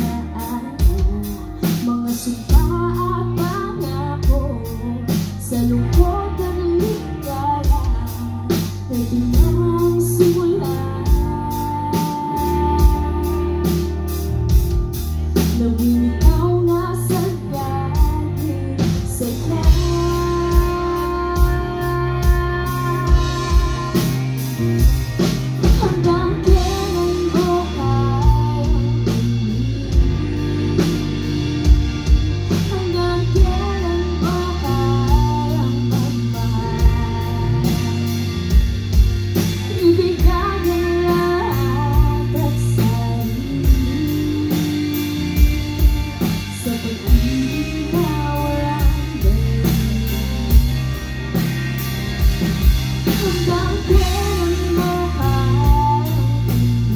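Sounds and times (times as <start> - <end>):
person singing: 0.0 - 38.8, 39.6 - 51.6, 53.0 - 56.9
live rock band playing: 0.0 - 56.9.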